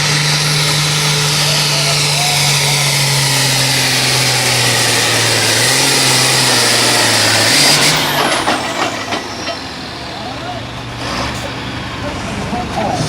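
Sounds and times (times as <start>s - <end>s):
engine knocks: 0.0s - 13.0s
tractor engine under load: 0.0s - 13.0s.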